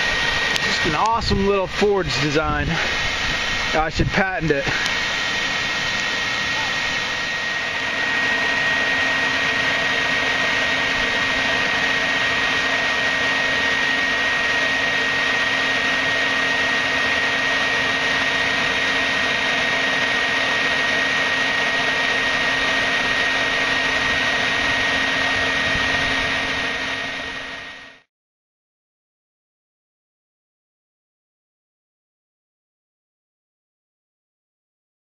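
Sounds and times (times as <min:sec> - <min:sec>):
hair dryer blowing: 0:00.0 - 0:28.1.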